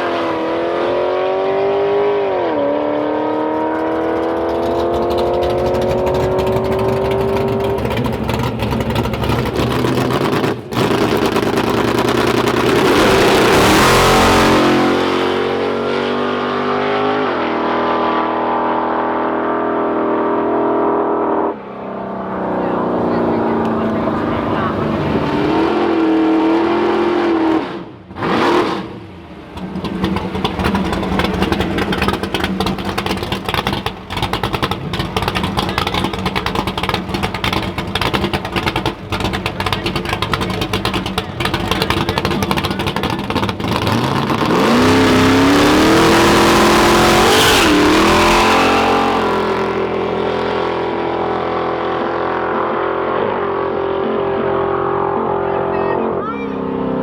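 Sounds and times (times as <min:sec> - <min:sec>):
car engine loping and revving: 0:00.0 - 0:57.0.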